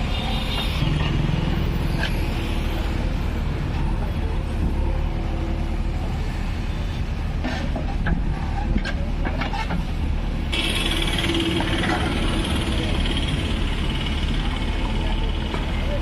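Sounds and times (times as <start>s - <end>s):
diesel engine running: 0.8s - 16.0s.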